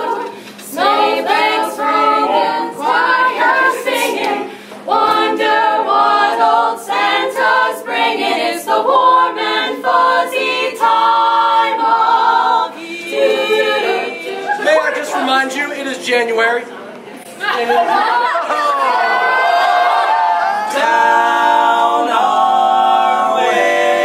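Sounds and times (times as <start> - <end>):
girls singing a cappella in harmony: 0.0 - 15.2, 17.4 - 24.0.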